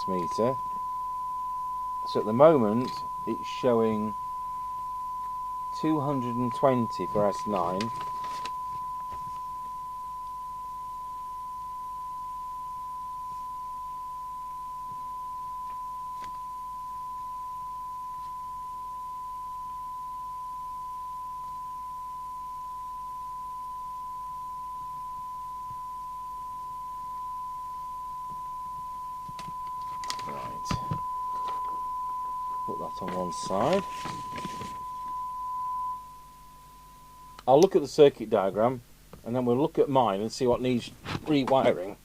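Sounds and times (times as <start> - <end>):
steady test tone from radio: 0.0 - 39.5.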